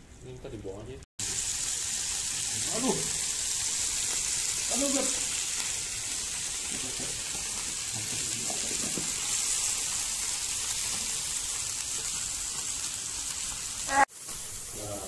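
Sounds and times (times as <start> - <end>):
steaks sizzling on grill: 1.2 - 15.0.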